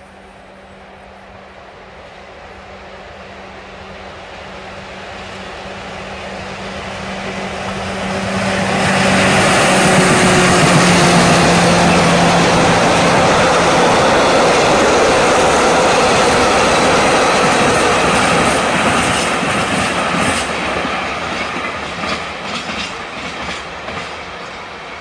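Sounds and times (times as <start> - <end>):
diesel locomotive engine passing: 0.0 - 25.0
train wheels rumbling on rail: 0.0 - 25.0.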